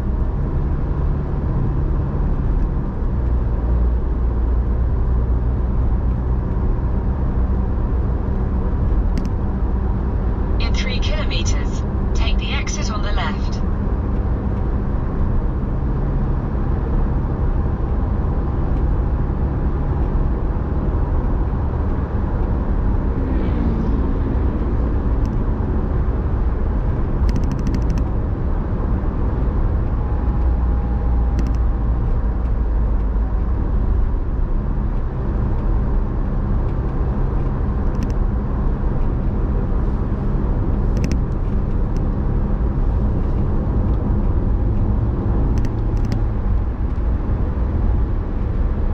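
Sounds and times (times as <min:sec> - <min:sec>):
car engine hum: 0:00.0 - 0:48.9
road rumble: 0:00.0 - 0:48.9.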